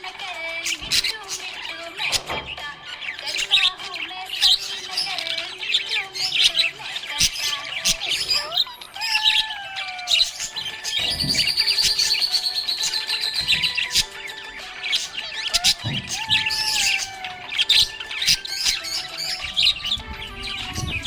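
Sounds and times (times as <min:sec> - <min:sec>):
parrots chirping and warbling: 0:00.0 - 0:21.0
bird fast trill: 0:00.2 - 0:21.0.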